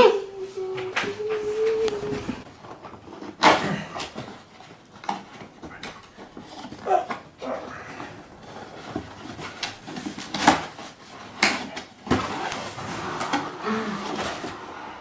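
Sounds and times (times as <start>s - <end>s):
packaging rustling: 0.3s - 14.8s.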